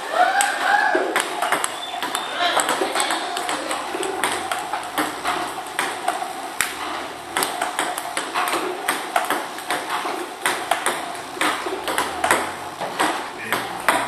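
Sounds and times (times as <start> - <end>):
table tennis balls bouncing: 0.0 - 14.0
bat striking ball: 0.9 - 14.0.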